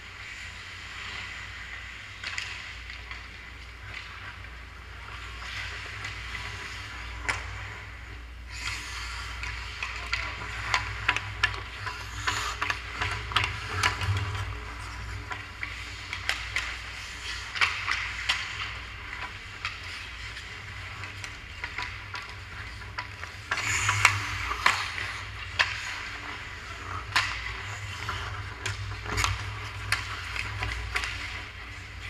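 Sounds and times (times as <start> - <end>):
skates scraping on ice: 0.0 - 32.0
steady low hum: 0.0 - 32.0
hockey sticks and puck clacking: 0.2 - 32.0.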